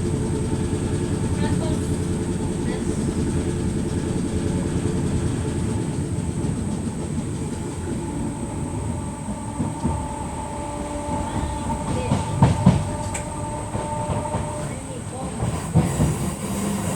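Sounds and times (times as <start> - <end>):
train wheels rumbling: 0.0 - 16.9.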